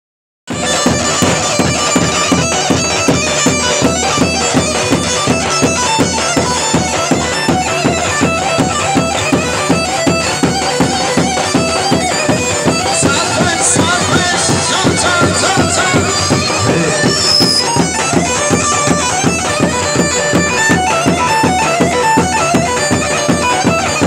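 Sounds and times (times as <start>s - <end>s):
reedy shawm melody: 0.5s - 24.0s
steady drum beat: 0.5s - 24.0s.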